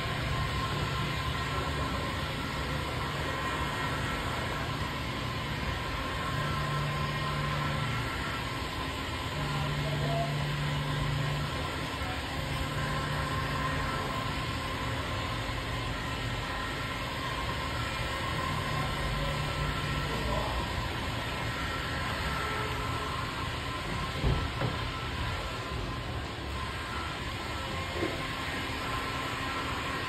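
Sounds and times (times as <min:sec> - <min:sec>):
heat gun fan blowing: 0:00.0 - 0:30.0.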